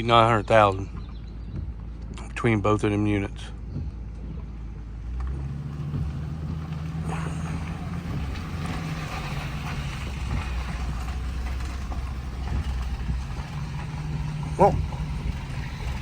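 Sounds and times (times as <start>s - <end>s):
road and wind noise: 0.0s - 16.0s
vehicle engine drone: 0.0s - 16.0s.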